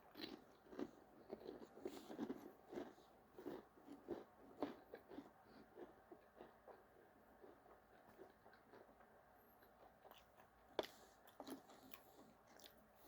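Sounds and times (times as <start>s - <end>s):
crisp being chewed: 0.0s - 13.0s.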